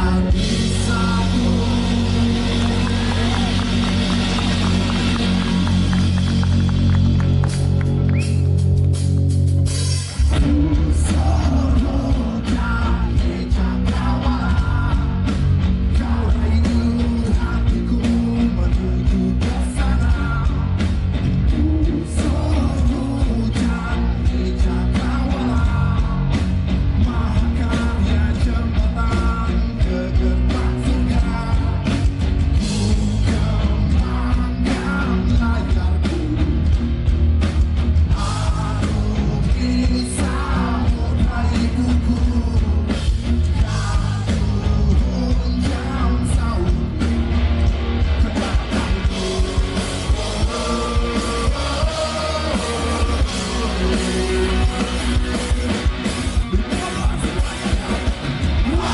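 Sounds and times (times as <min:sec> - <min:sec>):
male lead singer: 0:00.0 - 0:08.7, 0:09.7 - 0:58.9
bass guitar: 0:00.0 - 0:58.9
drum kit: 0:00.0 - 0:58.9
electric guitars: 0:00.0 - 0:58.9.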